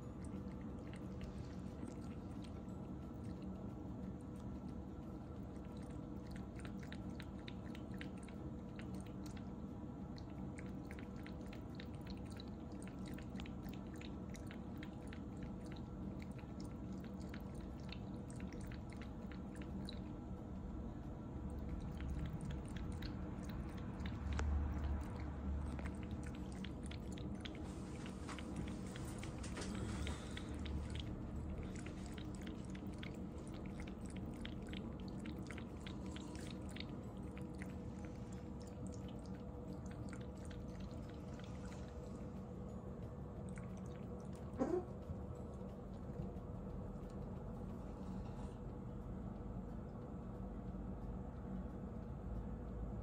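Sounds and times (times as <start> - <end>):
cat licking and chewing: 0.0 - 52.9
faint steady hum: 0.0 - 53.0.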